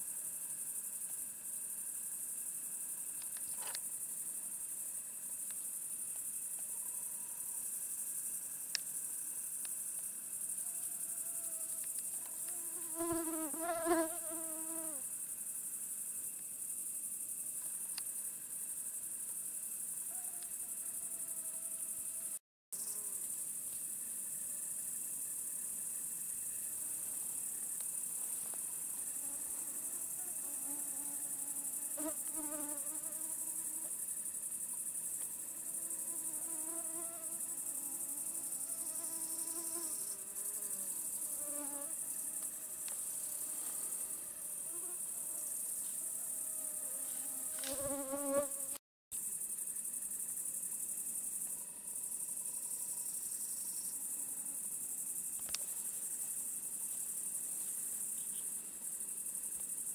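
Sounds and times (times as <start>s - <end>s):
crickets trilling: 0.2s - 59.9s.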